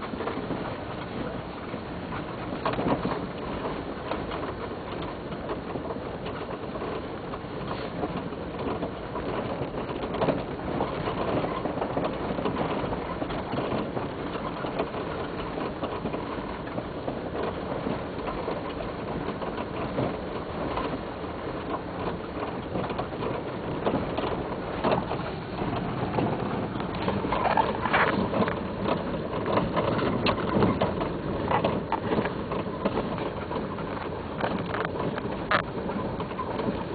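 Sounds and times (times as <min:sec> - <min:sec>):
car road noise: 0:00.0 - 0:36.9
suspension clunks and rattles: 0:00.0 - 0:36.9.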